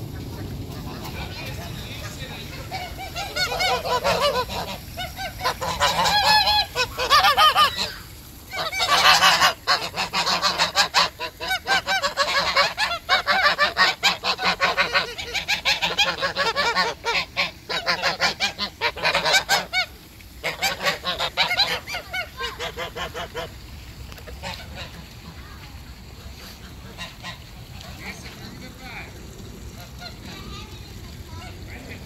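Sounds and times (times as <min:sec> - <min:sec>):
geese honking: 0:00.0 - 0:23.5, 0:24.1 - 0:25.4, 0:26.4 - 0:29.1, 0:29.7 - 0:30.5.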